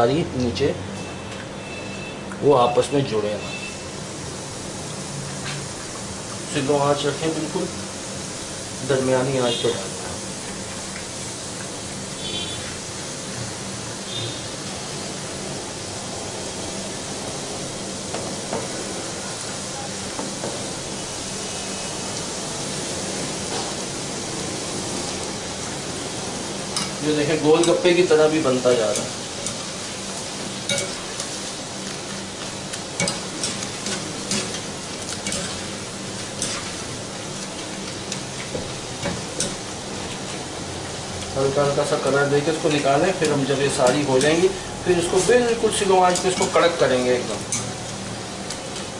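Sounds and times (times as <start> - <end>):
dough deep-frying in oil: 0.0 - 48.9.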